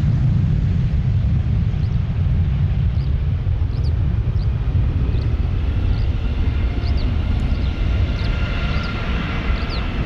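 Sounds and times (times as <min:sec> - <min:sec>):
jet engines whining: 0:00.0 - 0:10.0.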